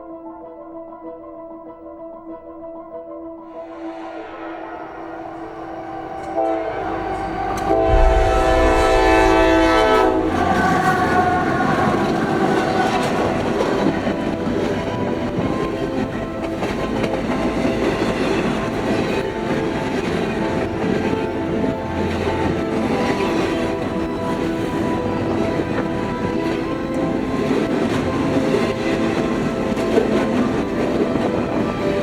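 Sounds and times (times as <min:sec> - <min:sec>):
train horn: 0:03.6 - 0:32.0
train rumbling and clattering: 0:03.7 - 0:32.0.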